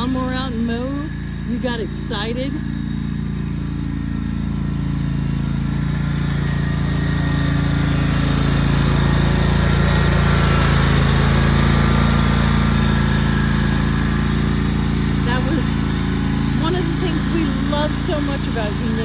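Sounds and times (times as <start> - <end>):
riding lawn mower engine: 0.0 - 19.0.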